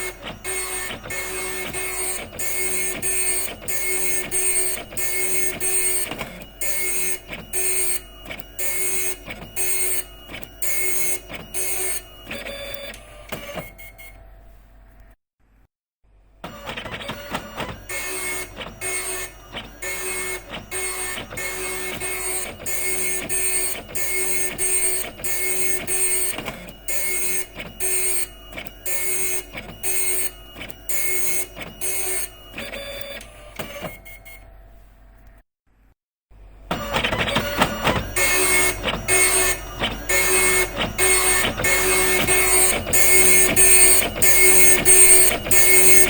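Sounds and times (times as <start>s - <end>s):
dot matrix printer printing: 0.0s - 14.3s, 16.4s - 34.6s, 36.7s - 46.0s.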